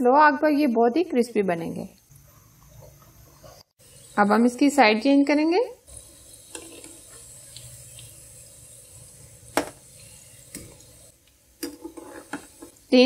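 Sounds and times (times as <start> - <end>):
samosas deep-frying in oil: 0.0 - 13.0.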